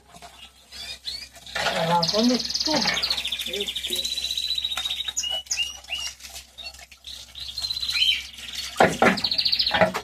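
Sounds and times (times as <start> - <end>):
birds singing: 0.2 - 10.0.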